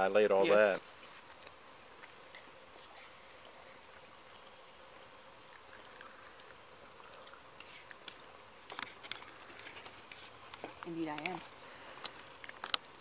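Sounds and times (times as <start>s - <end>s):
faint insect buzz: 0.0s - 13.0s.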